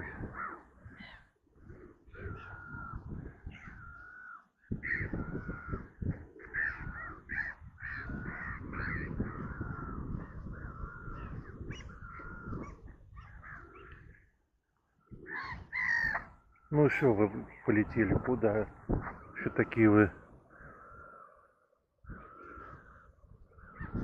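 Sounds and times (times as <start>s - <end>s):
flock of birds calling harshly: 0.0s - 1.3s, 2.1s - 14.3s, 15.1s - 24.0s.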